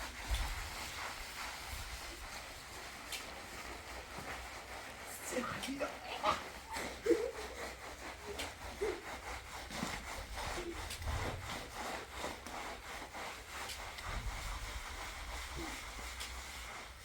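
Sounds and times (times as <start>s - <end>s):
rhythmic rasping scraping: 0.0s - 17.0s.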